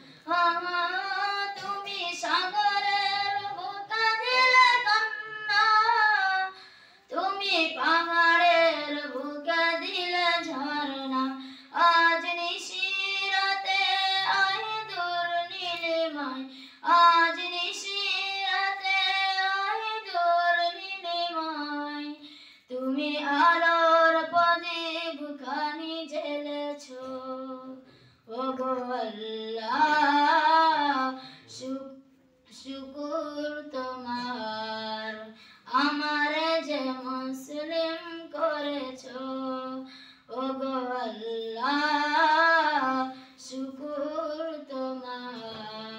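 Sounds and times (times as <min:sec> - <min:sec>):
boy singing: 0:00.1 - 0:45.9.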